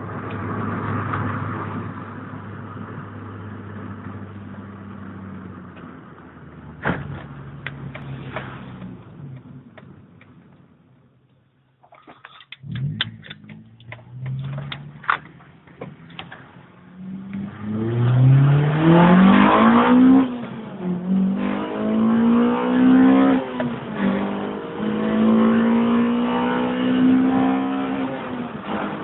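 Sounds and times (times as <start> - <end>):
car engine accelerating: 0.0 - 11.2, 12.1 - 29.0.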